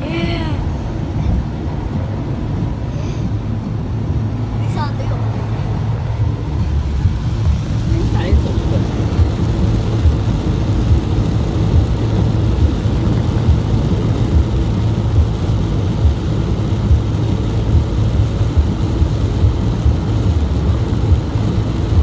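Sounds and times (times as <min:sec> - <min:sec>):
tyres on wet road: 0:00.0 - 0:22.0.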